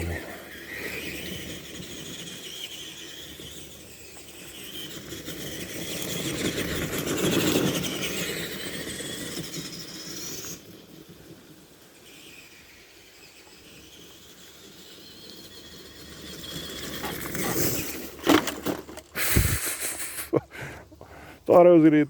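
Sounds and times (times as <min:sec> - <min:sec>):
rc truck electric motor whining: 0:00.0 - 0:19.7.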